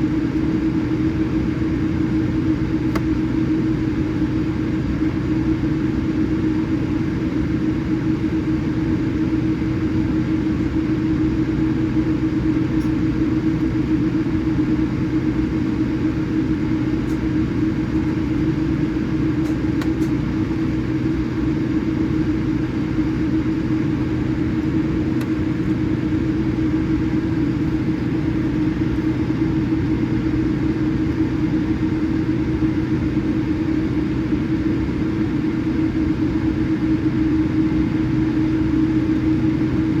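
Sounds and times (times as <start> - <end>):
aircraft cabin engine drone: 0.0 - 40.0.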